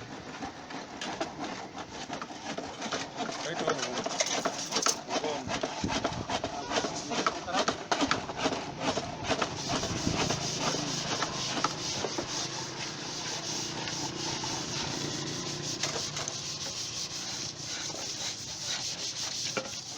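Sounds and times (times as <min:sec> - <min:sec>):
wood being sanded: 0:00.0 - 0:19.9.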